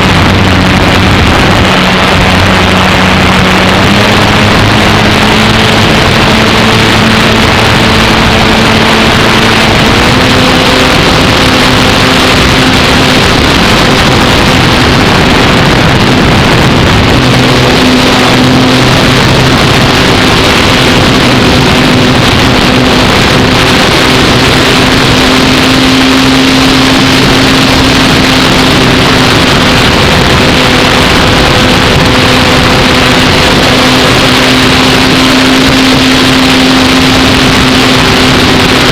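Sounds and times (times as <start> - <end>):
electric motor and propeller droning: 0.0 - 38.9
wind rush over microphone: 0.0 - 38.9.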